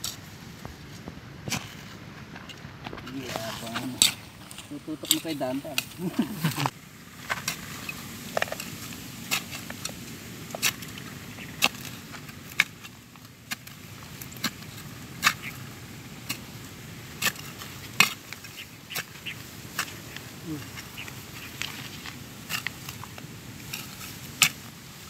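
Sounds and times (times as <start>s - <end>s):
soil clicks and crunches: 0.0s - 25.0s
trowel scraping in soil: 1.4s - 16.6s, 17.2s - 25.0s.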